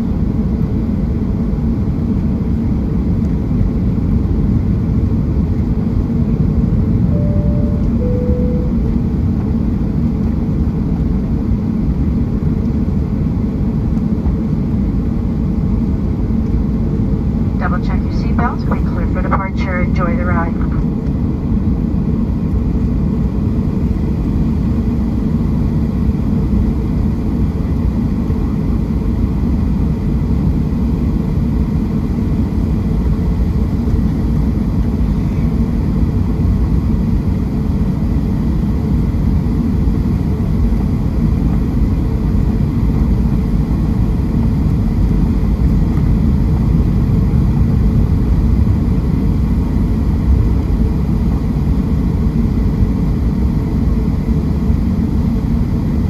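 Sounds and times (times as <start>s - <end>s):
jet engines rumbling in cabin: 0.0s - 9.2s, 10.6s - 56.0s.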